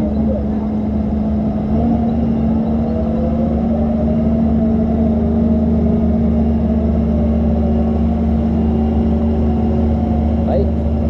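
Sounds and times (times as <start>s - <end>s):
excavator diesel engine under load: 0.0s - 11.0s.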